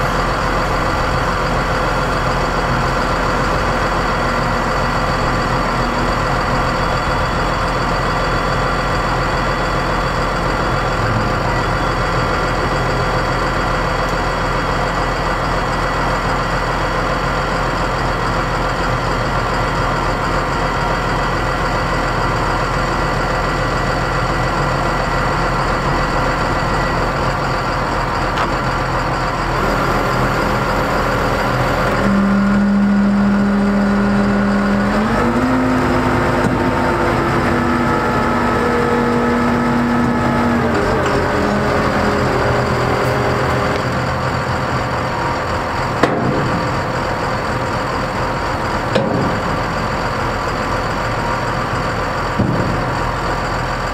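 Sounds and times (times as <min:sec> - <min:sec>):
diesel engine idling: 0:00.0 - 0:53.9
hydraulic hoist low hum: 0:00.0 - 0:53.9.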